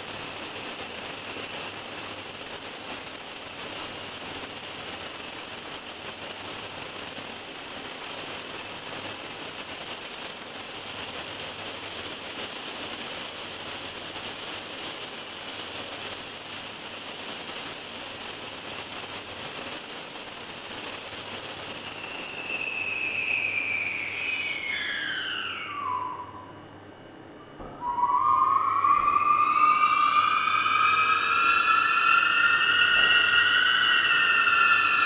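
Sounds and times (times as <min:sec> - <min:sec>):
high-pitched air whistle: 0:00.0 - 0:35.0.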